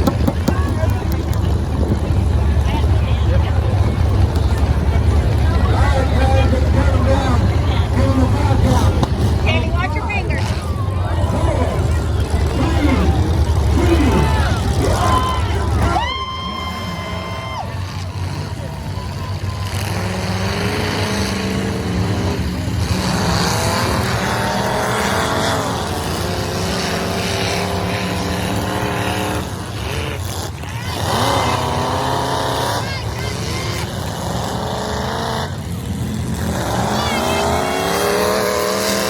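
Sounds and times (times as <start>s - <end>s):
truck engines revving hard: 0.0s - 39.0s.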